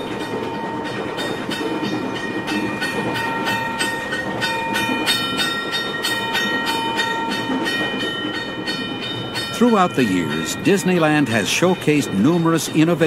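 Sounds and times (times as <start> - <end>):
train rumble: 0.0 - 13.0
train wheels clacking on rails: 0.0 - 13.0.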